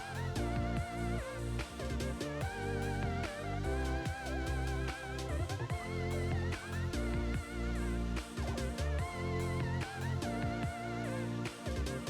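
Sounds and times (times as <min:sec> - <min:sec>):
music with beat and bass: 0:00.0 - 0:12.0.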